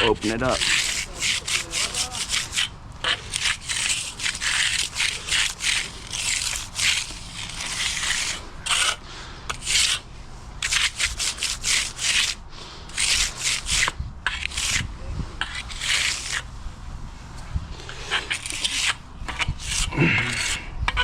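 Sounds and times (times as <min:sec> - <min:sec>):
tool scraping wet concrete: 0:00.0 - 0:16.5, 0:17.8 - 0:21.0.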